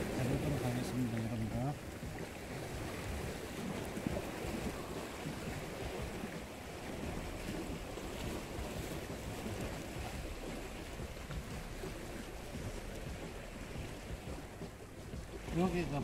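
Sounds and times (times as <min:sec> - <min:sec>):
small waves against rocks: 0:00.0 - 0:16.0
wind rumbling on microphone: 0:00.0 - 0:16.0.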